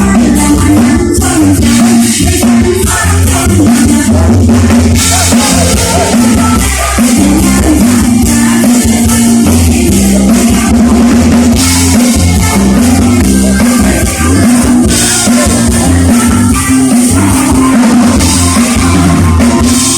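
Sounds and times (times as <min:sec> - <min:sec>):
loud live band music: 0:00.0 - 0:19.9.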